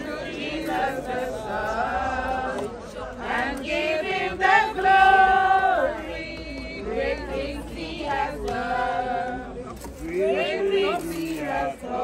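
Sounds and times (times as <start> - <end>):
people singing unaccompanied: 0.0 - 12.0.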